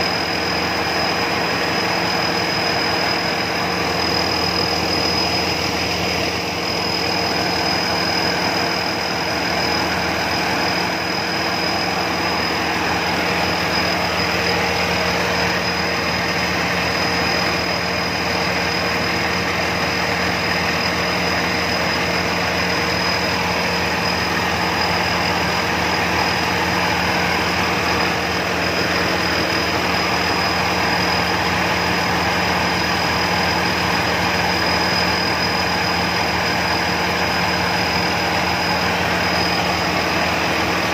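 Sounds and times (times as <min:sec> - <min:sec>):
harvester engine running: 0:00.0 - 0:40.9
thin high whine: 0:00.0 - 0:40.9.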